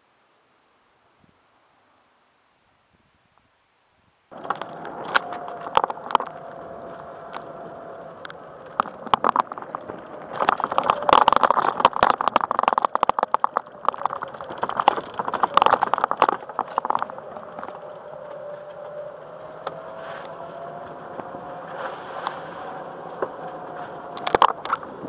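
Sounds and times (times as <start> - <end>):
golf cart motor whine: 4.3 - 25.0.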